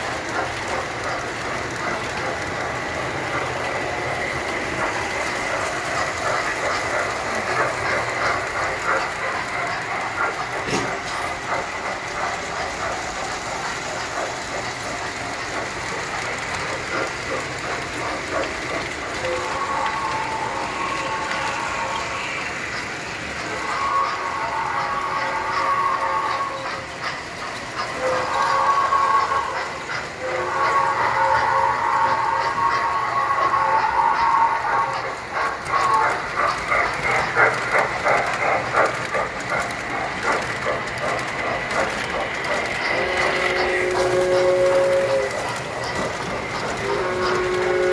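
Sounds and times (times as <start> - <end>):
toy train motors whirring: 0.0 - 47.9
wheels clicking over track: 0.0 - 47.9.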